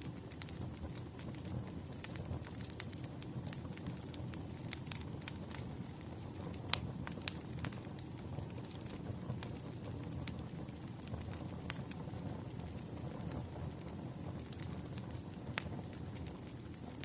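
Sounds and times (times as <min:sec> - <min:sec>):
firewood crackling: 0:00.0 - 0:17.0.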